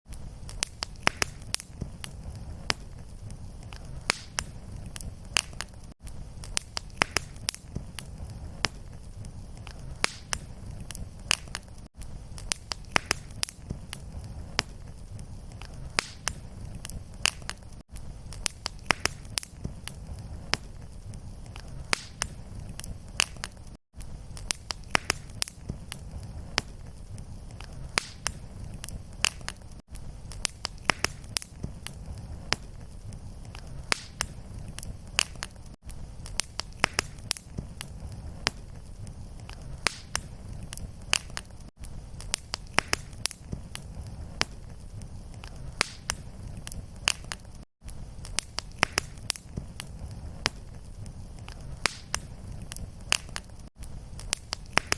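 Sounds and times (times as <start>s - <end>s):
wood fire crackling and popping: 0.1s - 54.9s.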